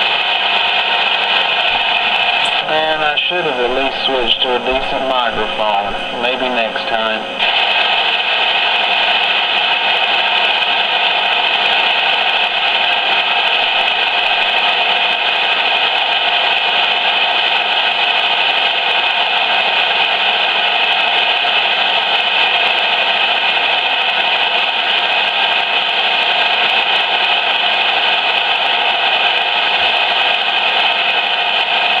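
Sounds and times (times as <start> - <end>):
radio speaker static hiss: 0.0 - 32.0.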